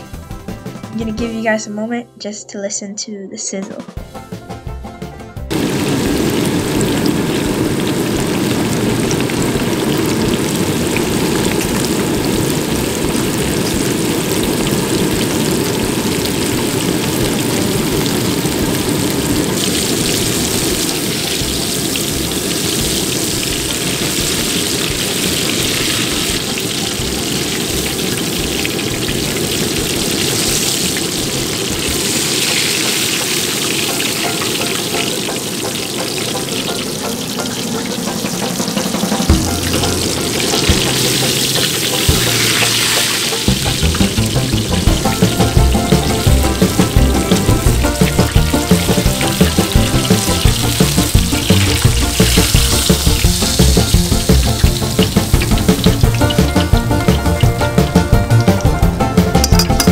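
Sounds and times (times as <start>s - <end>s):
fish frying in hot oil: 5.5s - 59.9s.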